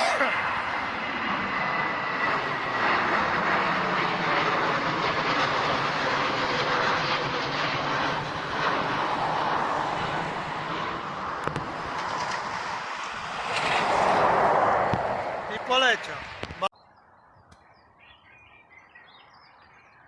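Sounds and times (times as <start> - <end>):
airliner engines: 0.0 - 16.7.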